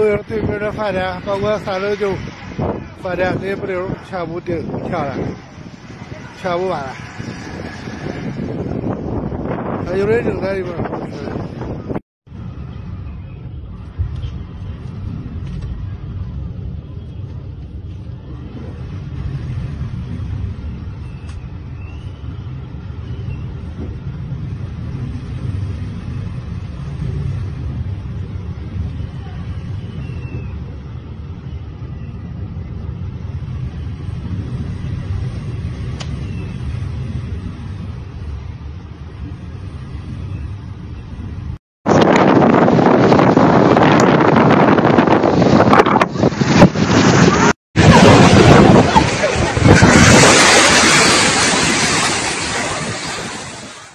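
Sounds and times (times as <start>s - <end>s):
strong wind blowing: 0.0s - 53.9s.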